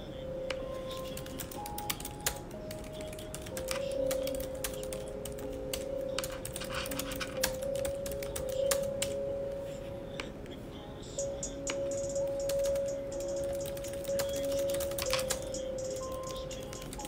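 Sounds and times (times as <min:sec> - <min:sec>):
soft background music: 0:00.0 - 0:17.0
keyboard typing clicks: 0:00.5 - 0:09.6, 0:11.2 - 0:17.0.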